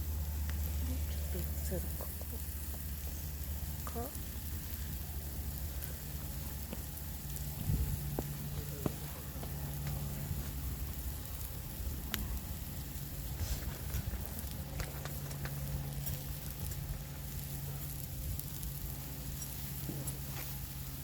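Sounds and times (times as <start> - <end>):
fire popping and crackling: 0.0 - 21.0
food sizzling on a griddle: 0.0 - 21.0
steady low hum: 0.0 - 21.0.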